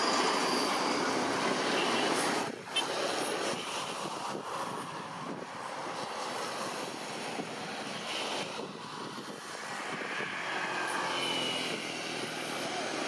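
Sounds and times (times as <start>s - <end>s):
jet engines running at low thrust: 0.0s - 13.0s.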